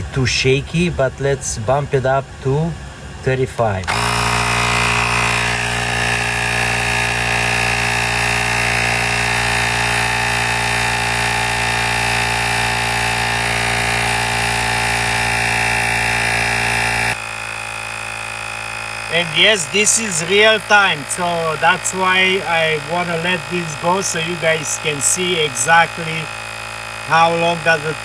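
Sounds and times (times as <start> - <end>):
tire inflator compressor running: 0.0 - 28.0.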